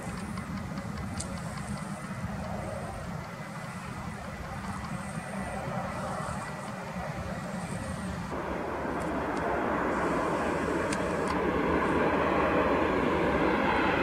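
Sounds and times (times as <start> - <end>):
jet engine noise: 0.0 - 14.0.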